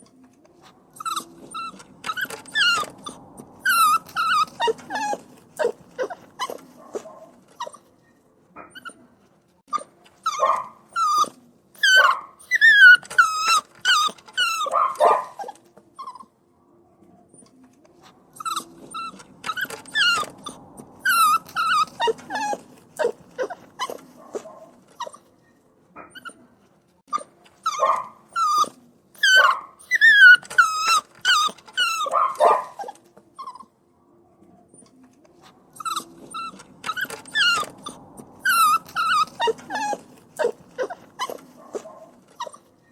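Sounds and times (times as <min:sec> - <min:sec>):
puppy whining and crying: 0:00.6 - 0:07.9, 0:08.6 - 0:16.4, 0:17.4 - 0:25.3, 0:26.0 - 0:33.8, 0:34.7 - 0:42.9.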